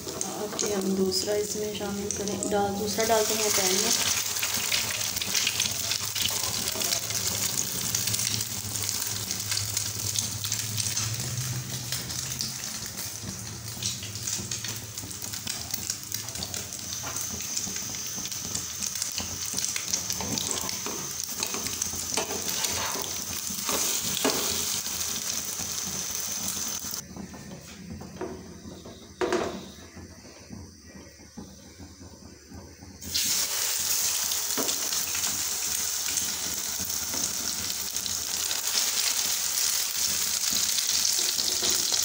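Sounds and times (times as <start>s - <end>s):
bread frying in oil: 0.0s - 42.0s.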